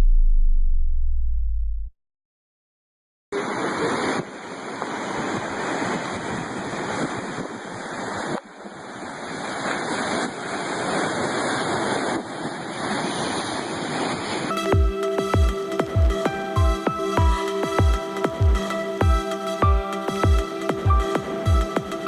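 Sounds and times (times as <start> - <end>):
ocean surf breaking: 3.4 - 22.0.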